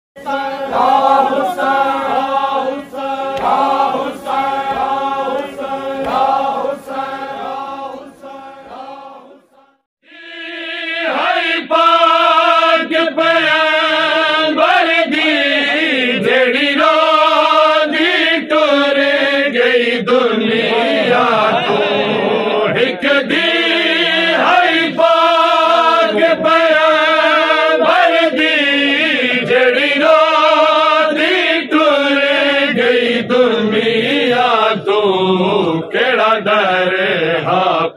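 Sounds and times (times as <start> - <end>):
men chanting in unison: 0.2 - 37.9.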